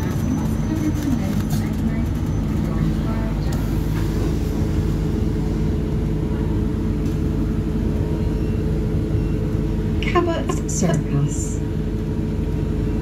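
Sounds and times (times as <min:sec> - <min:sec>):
bus engine hum from inside: 0:00.0 - 0:13.0.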